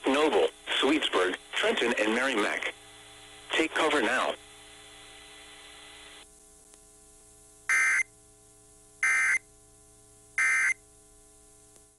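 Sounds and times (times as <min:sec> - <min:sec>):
faint steady hum: 0:00.0 - 0:11.9.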